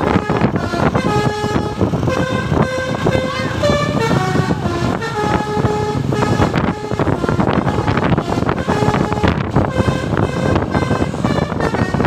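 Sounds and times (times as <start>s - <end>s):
loud background noise: 0.0s - 12.0s
multi-tone air horns tune: 0.0s - 12.0s.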